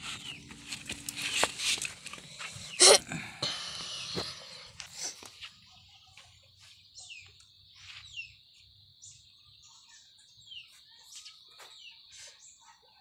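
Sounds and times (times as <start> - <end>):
faint bird chirps: 2.6 - 13.0.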